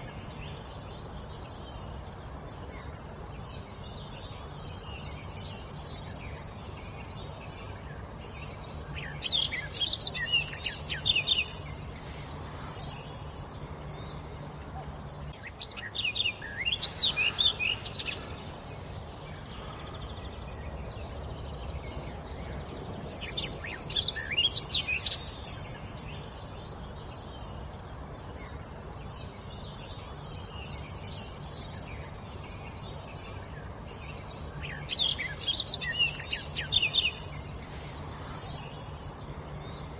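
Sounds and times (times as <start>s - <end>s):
background hiss: 0.0s - 39.9s
songbird chirping: 0.0s - 39.9s.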